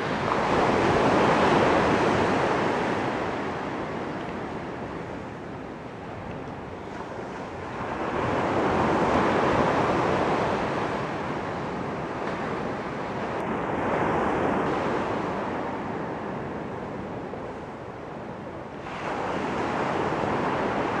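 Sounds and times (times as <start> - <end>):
surf breaking on a beach: 0.0 - 21.0.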